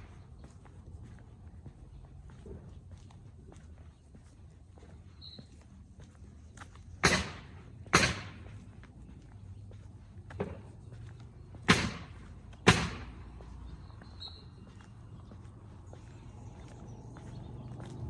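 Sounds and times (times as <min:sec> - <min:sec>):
footsteps of person walking: 0:00.0 - 0:18.0.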